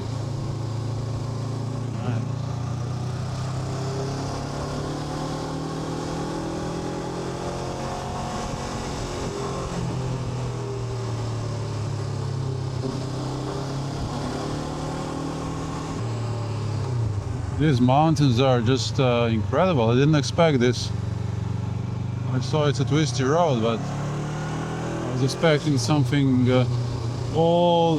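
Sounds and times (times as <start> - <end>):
motorcycle engine cruising: 0.0 - 27.9.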